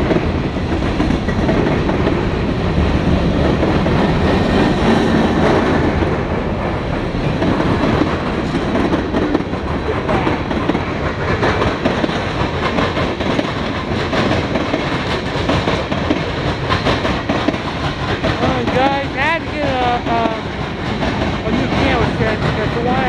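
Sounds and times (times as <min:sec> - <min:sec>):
train wheels clattering over rails: 0:00.0 - 0:23.0.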